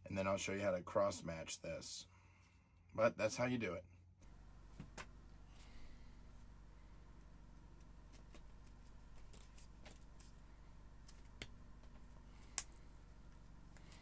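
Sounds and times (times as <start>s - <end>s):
steady low hum: 1.0s - 14.0s.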